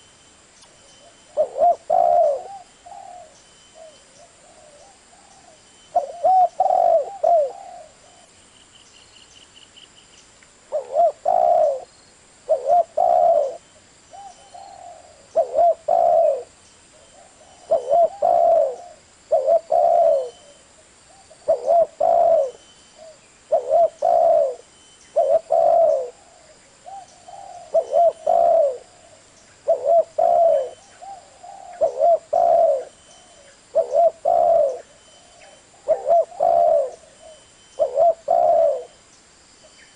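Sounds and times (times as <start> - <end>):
dove cooing: 1.0 - 8.3, 10.7 - 11.9, 12.5 - 39.0.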